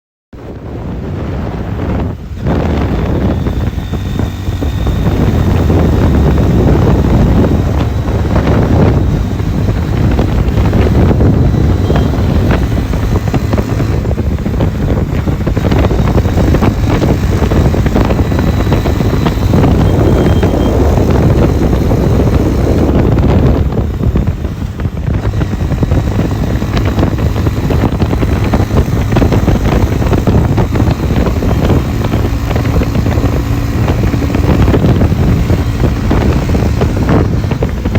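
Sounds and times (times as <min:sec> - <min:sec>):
motorcycle riding noise: 0:00.4 - 0:37.9
wind buffeting microphone: 0:00.4 - 0:37.9.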